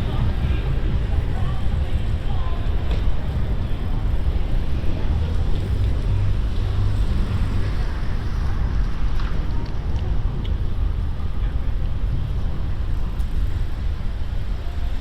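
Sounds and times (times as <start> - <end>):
street traffic noise: 0.0 - 15.0
wind rumbling over microphone: 0.0 - 15.0.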